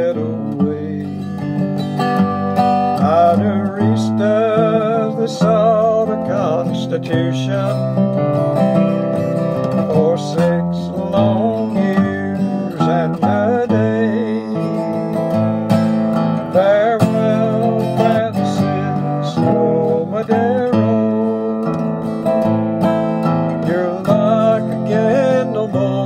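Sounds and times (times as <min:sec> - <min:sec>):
acoustic guitar folk ballad: 0:00.0 - 0:26.0.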